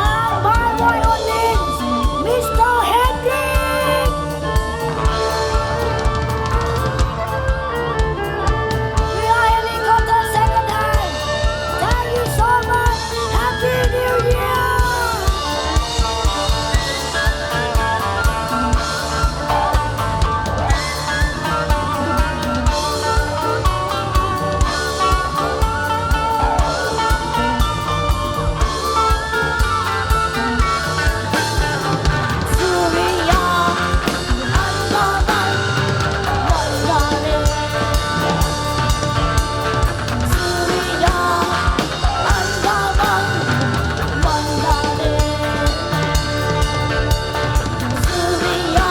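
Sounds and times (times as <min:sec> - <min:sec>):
drum kit beat: 0:00.0 - 0:48.9
electric guitars with sliding notes: 0:00.0 - 0:48.9.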